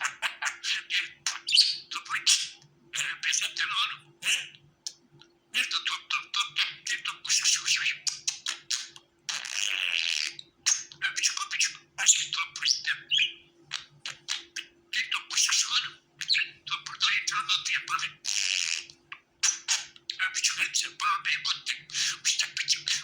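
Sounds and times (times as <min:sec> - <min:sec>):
budgerigars chirping and warbling: 0:00.0 - 0:04.6, 0:05.6 - 0:23.0.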